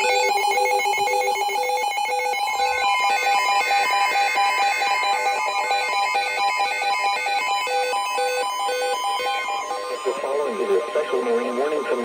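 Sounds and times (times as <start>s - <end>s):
electronic alarm tones: 0.0s - 12.0s.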